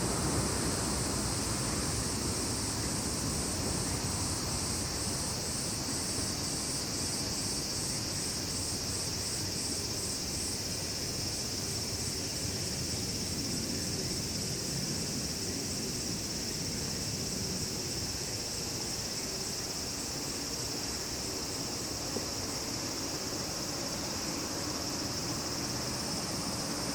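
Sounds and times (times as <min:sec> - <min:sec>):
insect drone: 0:00.0 - 0:26.9
pulsing insect chirp: 0:00.0 - 0:26.9.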